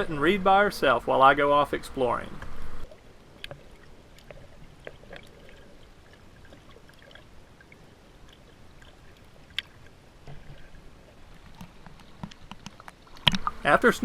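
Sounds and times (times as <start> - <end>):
water lapping and trickling: 0.0 - 14.0.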